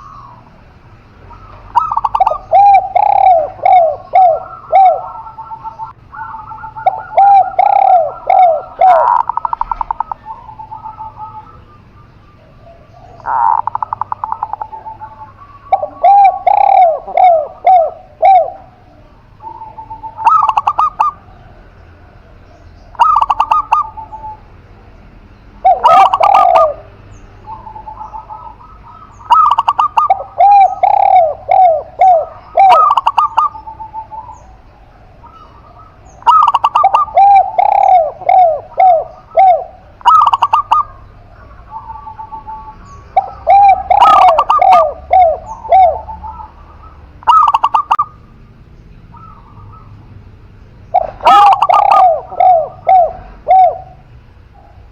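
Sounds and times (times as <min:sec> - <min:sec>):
doves cooing: 0:00.0 - 0:54.9.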